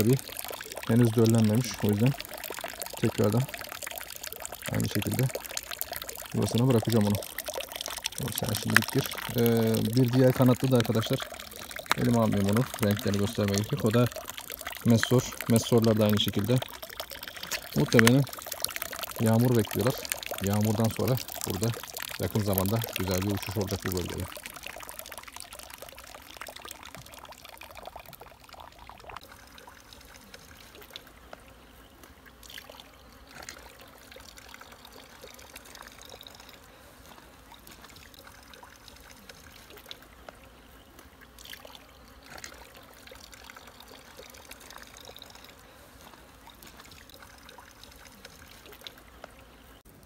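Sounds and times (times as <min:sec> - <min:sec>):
water trickling into a channel: 0:00.0 - 0:50.0.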